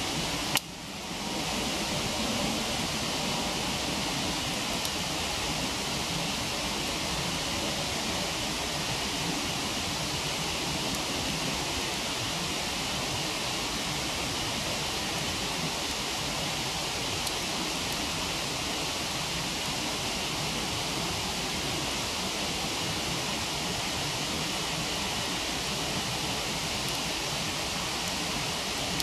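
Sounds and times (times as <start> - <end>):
campfire crackles: 0.0 - 29.0
waterfall rushing: 0.0 - 29.0.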